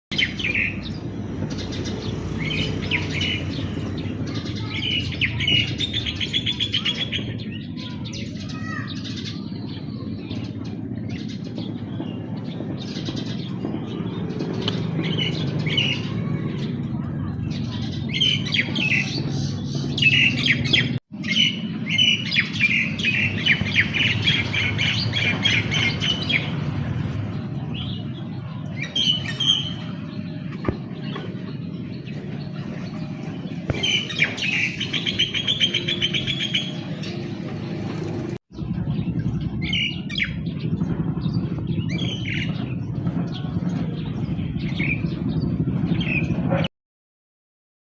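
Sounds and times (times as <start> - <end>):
wild birds chirping: 0.1 - 46.6
low outdoor background rumble: 0.2 - 46.7.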